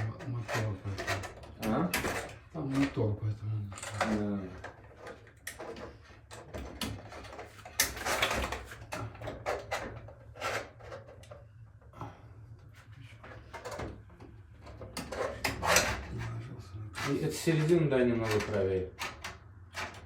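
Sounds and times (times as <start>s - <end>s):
rough scraping rattle: 0.0s - 11.4s, 14.6s - 20.0s.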